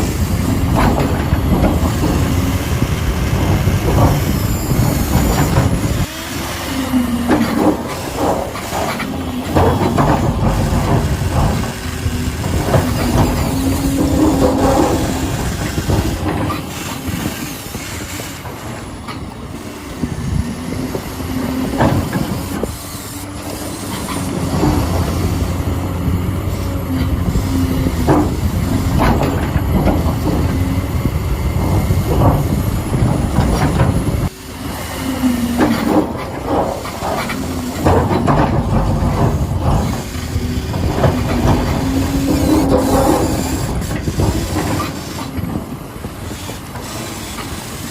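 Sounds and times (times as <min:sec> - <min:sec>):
toy excavator motors whining: 0:00.0 - 0:47.9
tracks and gears rattling: 0:00.0 - 0:47.9.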